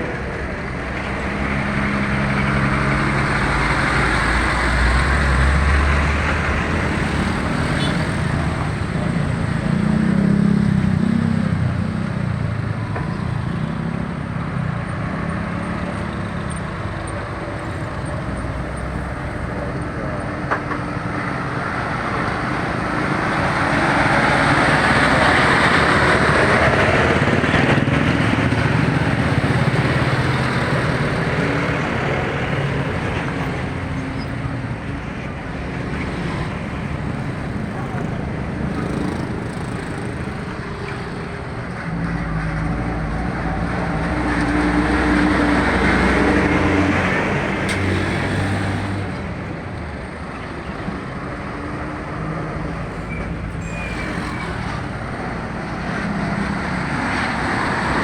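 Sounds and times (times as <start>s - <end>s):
heavy trucks passing: 0.0s - 58.0s.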